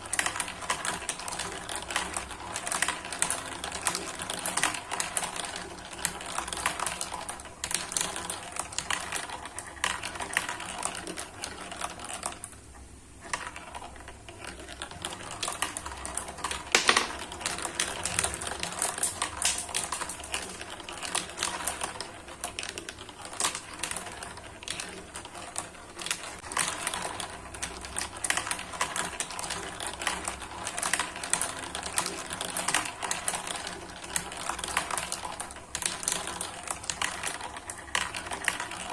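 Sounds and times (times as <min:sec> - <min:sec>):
marbles rolling and clattering: 0:00.0 - 0:12.5, 0:13.2 - 0:38.9.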